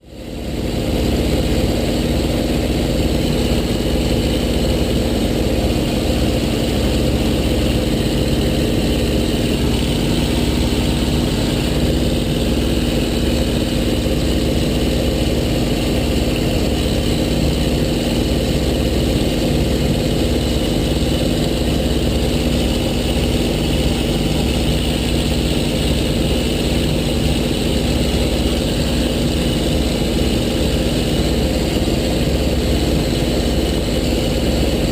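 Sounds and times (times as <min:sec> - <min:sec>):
model plane motor and propeller: 0:00.0 - 0:34.9.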